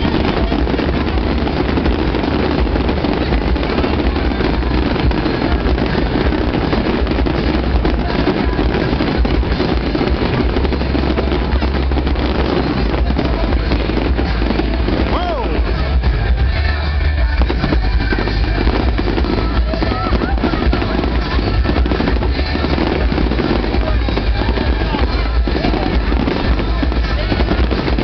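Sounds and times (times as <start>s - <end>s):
fireworks booming and crackling: 0.0s - 28.0s.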